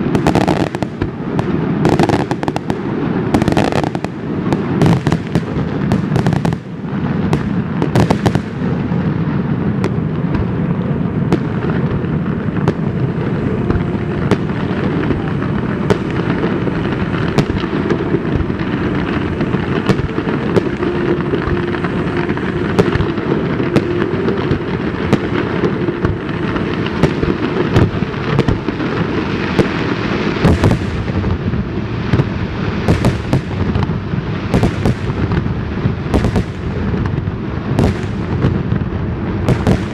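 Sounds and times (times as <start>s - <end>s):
fireworks rumble: 0.0s - 39.9s.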